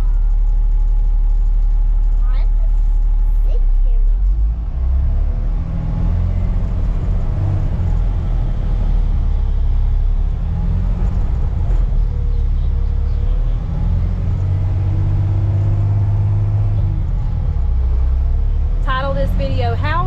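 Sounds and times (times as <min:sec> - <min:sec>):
truck engine rumbling: 0:00.0 - 0:20.0.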